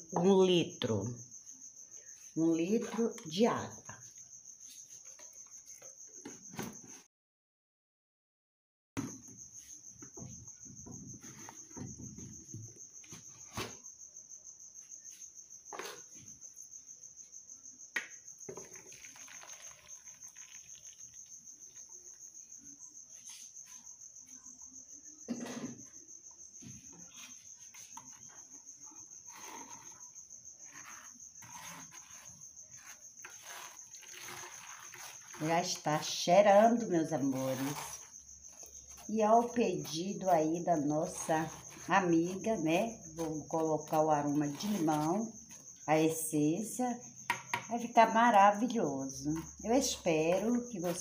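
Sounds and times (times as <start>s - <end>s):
cricket chirping: 0.0s - 7.1s, 9.0s - 51.0s.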